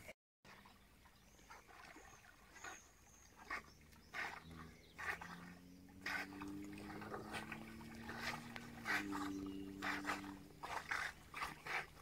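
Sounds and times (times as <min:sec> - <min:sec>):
dogs swimming: 0:00.0 - 0:12.0.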